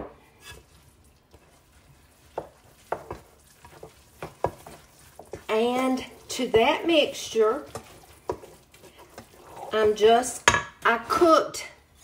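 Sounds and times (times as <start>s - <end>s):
wooden spoon stirring thick mixture: 0.0s - 12.0s.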